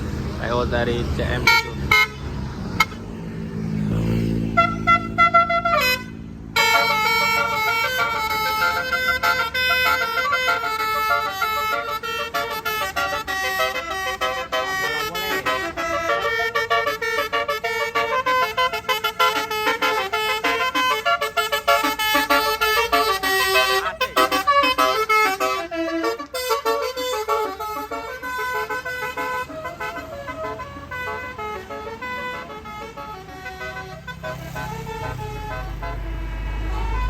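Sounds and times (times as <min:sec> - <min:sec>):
bus engine: 0:00.0 - 0:37.0
musical bus horn melody: 0:00.0 - 0:37.0.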